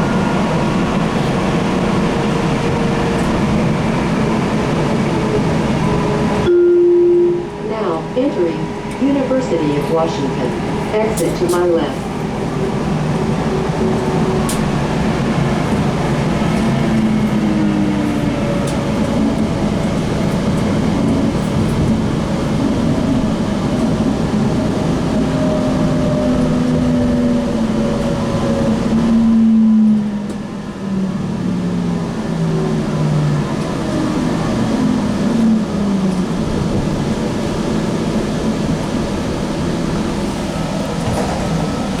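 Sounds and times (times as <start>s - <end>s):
light rail car rumble: 0.0s - 42.0s.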